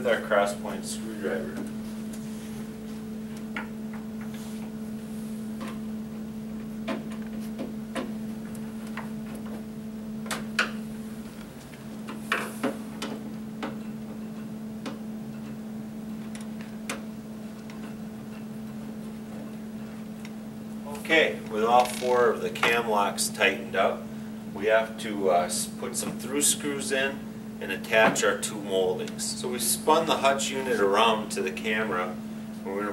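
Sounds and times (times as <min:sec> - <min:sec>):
low electrical hum: 0:00.0 - 0:32.9.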